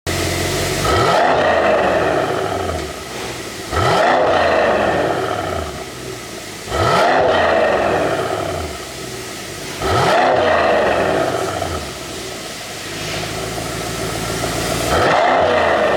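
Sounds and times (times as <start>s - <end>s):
car engine revving: 0.1s - 15.9s
exhaust crackling and popping: 0.1s - 15.9s.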